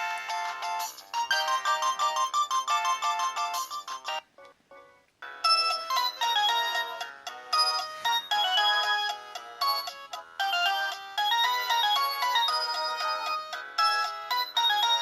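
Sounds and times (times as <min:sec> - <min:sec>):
phone ringtone melody: 0:00.0 - 0:04.3, 0:05.2 - 0:15.0.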